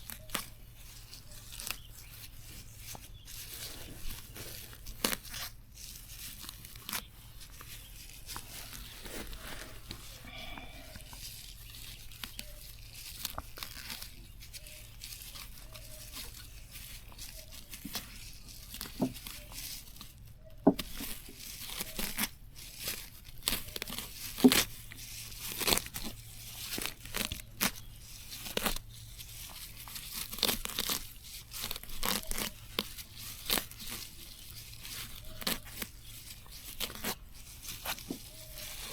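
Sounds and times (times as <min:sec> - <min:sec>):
plants tearing and snapping: 0:00.0 - 0:38.9.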